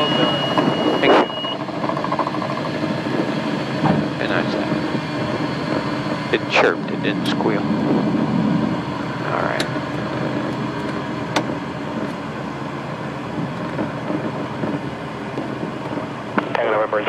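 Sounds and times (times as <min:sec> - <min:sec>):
rush of air and wheel noise: 0:00.0 - 0:16.9
light airplane engine running: 0:00.0 - 0:17.0.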